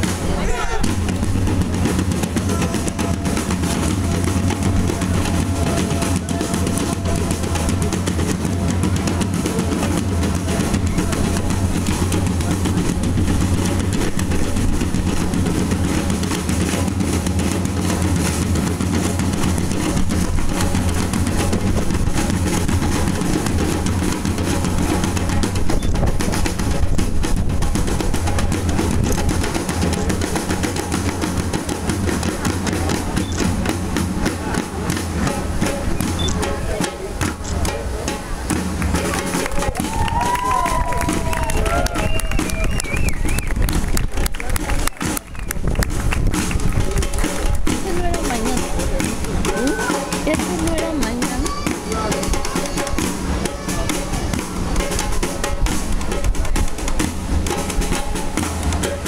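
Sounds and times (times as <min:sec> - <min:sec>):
hand drums playing a steady beat: 0:00.0 - 0:59.0.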